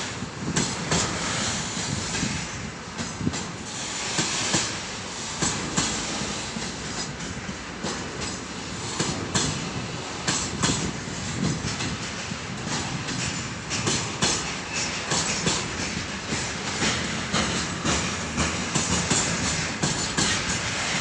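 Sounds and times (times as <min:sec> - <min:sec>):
freight train rumble: 0:00.0 - 0:21.0
train wheels clattering over rail joints: 0:00.0 - 0:21.0.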